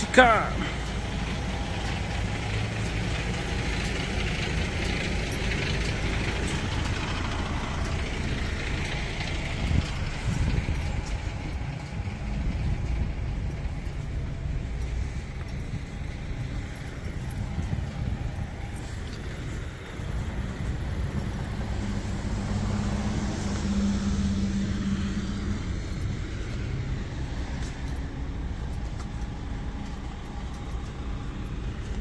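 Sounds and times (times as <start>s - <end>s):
truck diesel engine idling: 0.0s - 32.0s.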